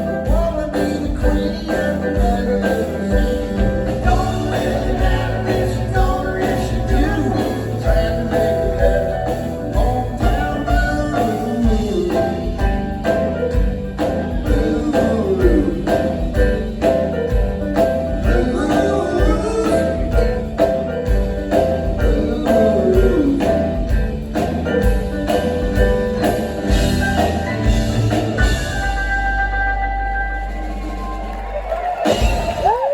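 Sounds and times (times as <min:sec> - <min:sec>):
person singing: 0:00.0 - 0:17.1, 0:17.8 - 0:27.6
drum kit steady beat: 0:00.0 - 0:32.9
electric guitars: 0:00.0 - 0:32.9.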